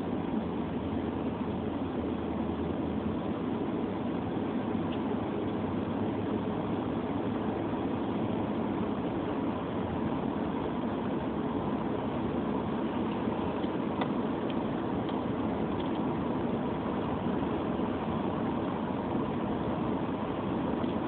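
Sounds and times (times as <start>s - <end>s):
car engine from inside cabin: 0.0s - 21.0s
tyres on wet road: 0.0s - 21.0s.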